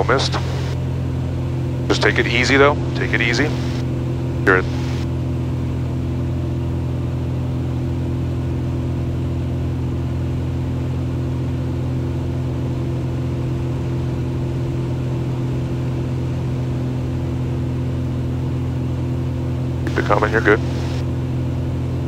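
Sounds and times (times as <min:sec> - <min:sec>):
aircraft propeller engine droning: 0:00.0 - 0:22.0.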